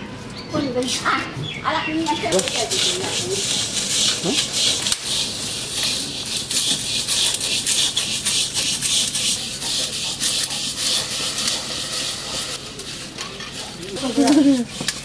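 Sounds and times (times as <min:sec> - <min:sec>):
rice grains roasting and crackling: 0:02.0 - 0:15.0
sticks stirring rice in a pot: 0:02.1 - 0:15.0.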